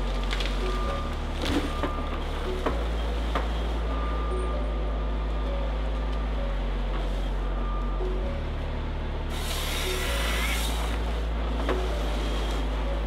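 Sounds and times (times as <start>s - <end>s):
low bass music: 0.0s - 13.0s.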